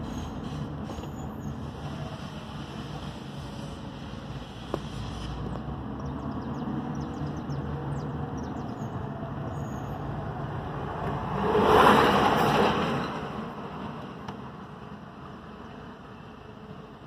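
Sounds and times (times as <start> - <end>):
rushing noise: 0.0 - 5.9, 8.0 - 16.4
vehicle engine and road rumble: 0.0 - 17.0.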